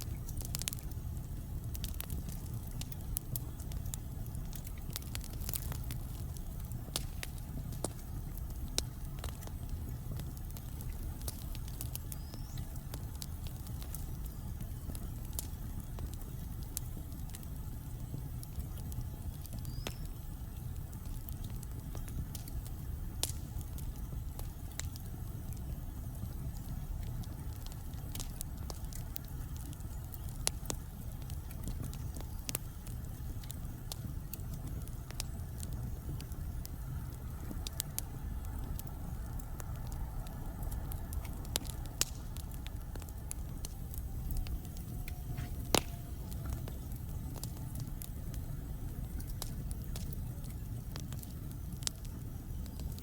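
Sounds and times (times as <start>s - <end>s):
fire crackles and pops: 0.0s - 53.0s
low rumble of flames: 0.0s - 53.0s.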